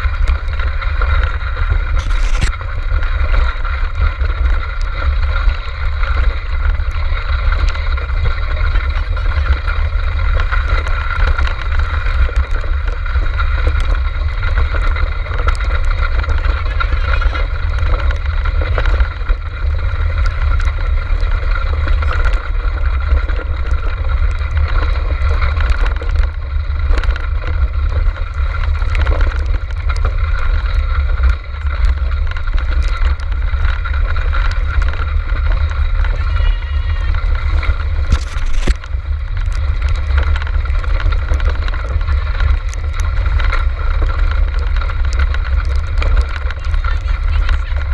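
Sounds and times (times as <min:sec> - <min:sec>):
low rumble of wind and vibration: 0:00.0 - 0:47.9.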